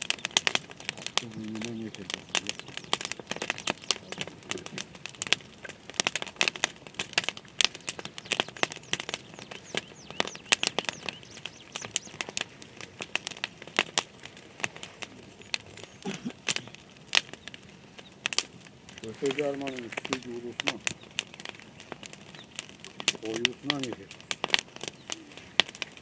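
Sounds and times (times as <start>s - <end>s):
crackling and crinkling: 0.0s - 26.0s.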